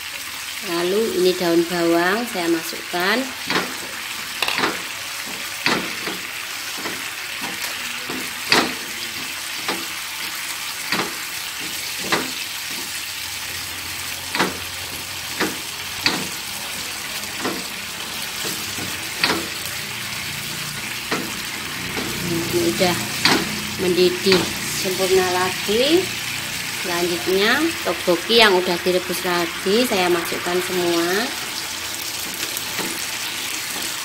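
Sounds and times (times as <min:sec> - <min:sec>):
sauce bubbling and sizzling in pan: 0:00.0 - 0:34.0.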